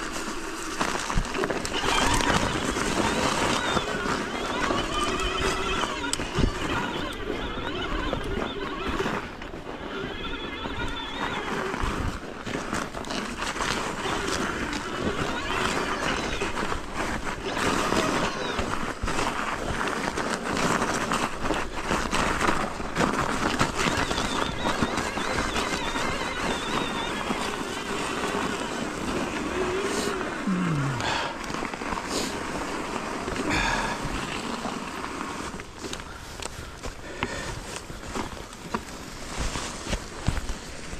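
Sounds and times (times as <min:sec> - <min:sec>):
bike rattling over bumps: 0:00.0 - 0:40.9
bike rushing noise: 0:00.0 - 0:40.9.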